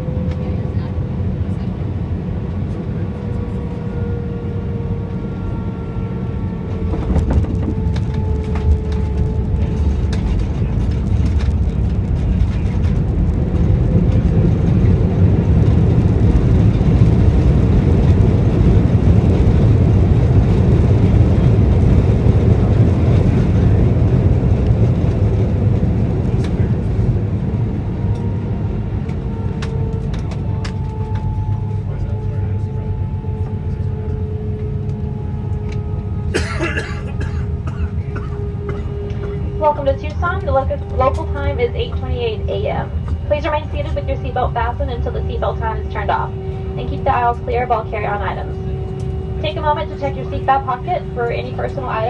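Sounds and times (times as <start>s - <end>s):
faint engine whine: 0.0s - 52.0s
jet cabin rumbling roar: 0.0s - 52.0s.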